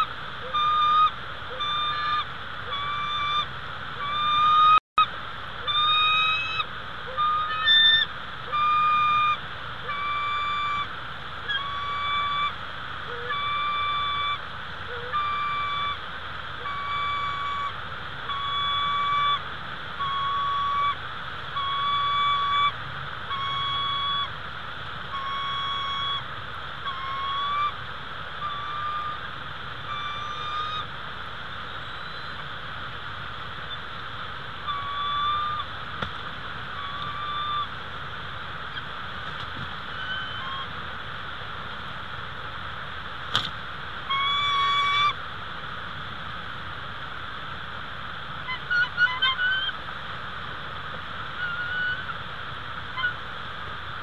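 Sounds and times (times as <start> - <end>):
bird calling: 0.0 - 32.6, 33.5 - 40.9, 43.3 - 45.2, 48.4 - 49.9, 51.2 - 53.3
steady hiss: 0.0 - 54.0.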